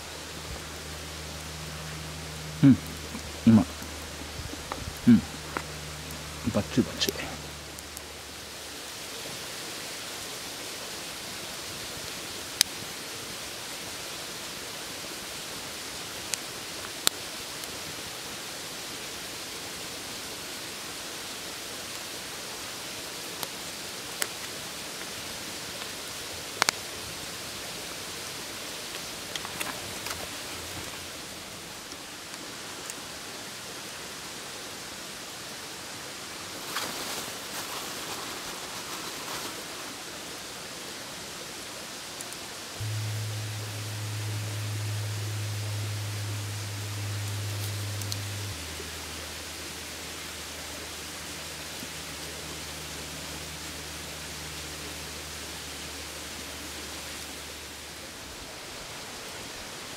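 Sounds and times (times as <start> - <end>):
wood fire crackling: 0.0 - 33.9, 35.2 - 40.7, 42.0 - 58.1
fire hiss: 0.0 - 59.9.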